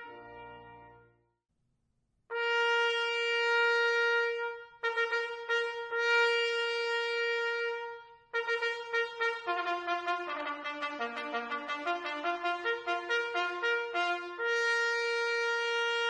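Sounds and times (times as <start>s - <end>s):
trumpet playing high note: 0.0s - 1.1s, 2.3s - 16.0s.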